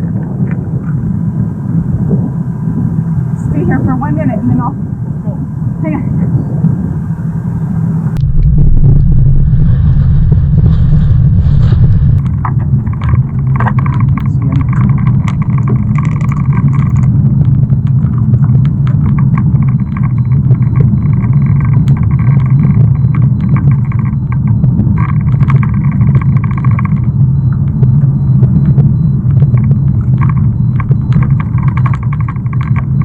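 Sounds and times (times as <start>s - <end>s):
car cabin low rumble: 0.0s - 33.0s
higher hum: 0.0s - 33.0s.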